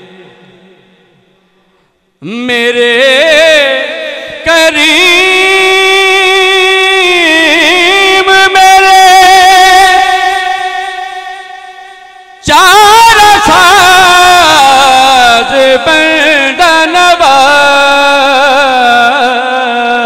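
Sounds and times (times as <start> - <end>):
man singing into a microphone: 0.0 - 1.2, 2.2 - 20.0.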